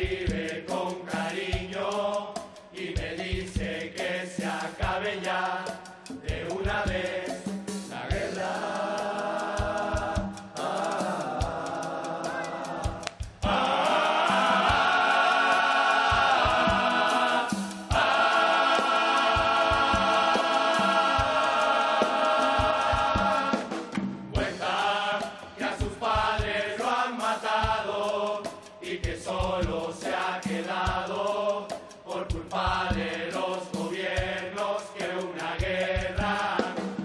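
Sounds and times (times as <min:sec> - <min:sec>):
men singing in chorus: 0:00.0 - 0:37.0
percussion beats: 0:00.0 - 0:37.0.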